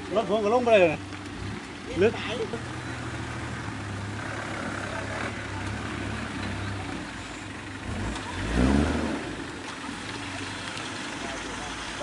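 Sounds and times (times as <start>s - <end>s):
truck engine revving: 1.3s - 12.0s.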